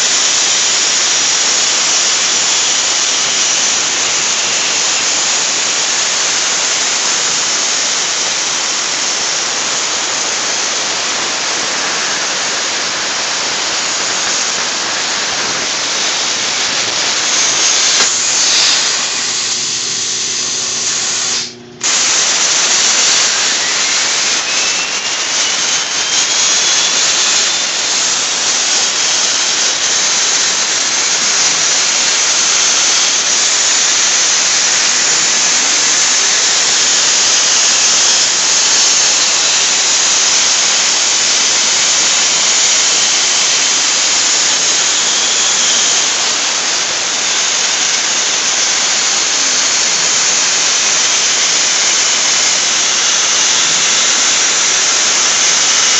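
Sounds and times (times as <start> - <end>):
plasma cutter hissing: 0.0 - 55.9.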